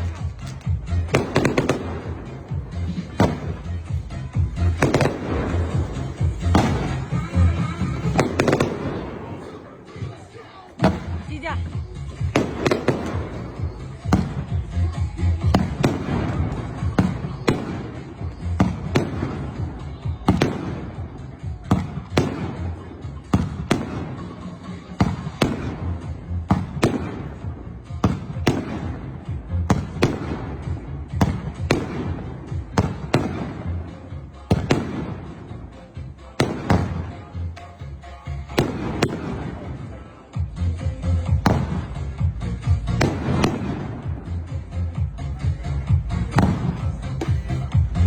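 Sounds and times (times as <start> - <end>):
fireworks bangs with rumbling tails: 0.0 - 48.0.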